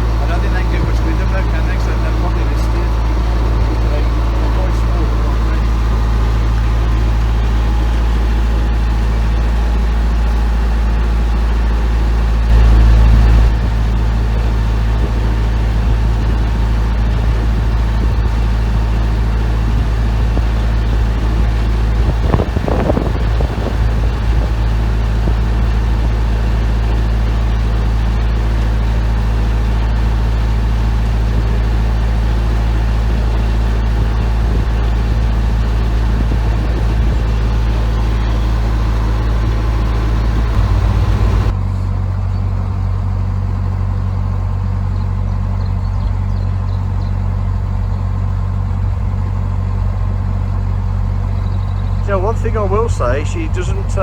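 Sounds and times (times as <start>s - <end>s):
boat diesel engine humming: 0.0s - 54.0s.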